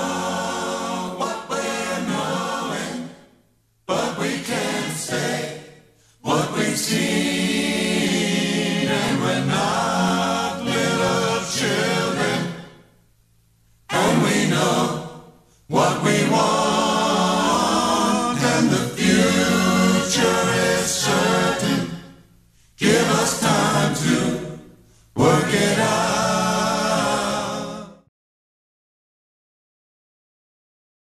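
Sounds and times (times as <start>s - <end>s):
several voices singing: 0.0s - 13.0s, 13.9s - 28.1s.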